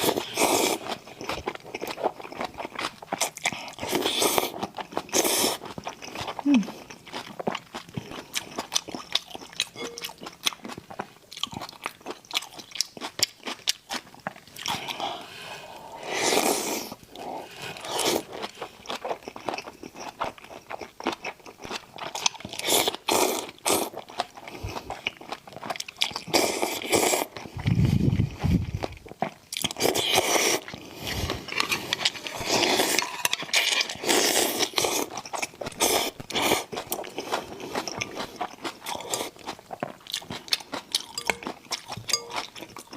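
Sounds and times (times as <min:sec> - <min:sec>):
crunching bites and chewing: 0:00.0 - 0:15.0, 0:17.8 - 0:42.9.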